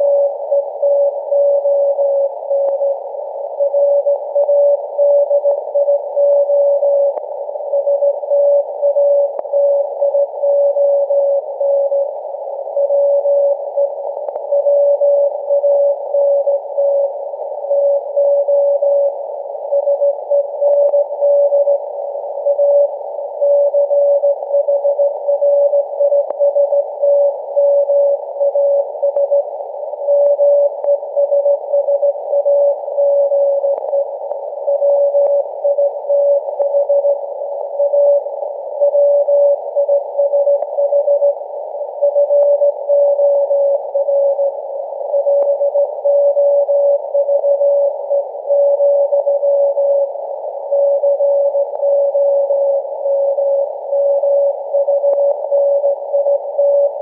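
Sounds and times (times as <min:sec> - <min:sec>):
morse code beeps: 0:00.0 - 0:03.0, 0:03.6 - 0:12.1, 0:12.7 - 0:41.4, 0:42.0 - 0:57.0
receiver hiss: 0:00.0 - 0:57.0.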